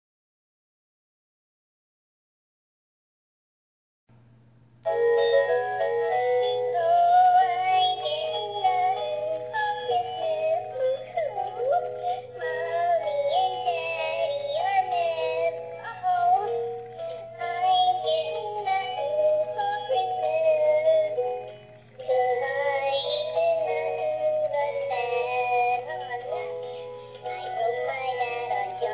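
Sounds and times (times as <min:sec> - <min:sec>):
steady low hum: 0:04.1 - 0:28.9
toy singing in synthetic voice: 0:05.0 - 0:28.9.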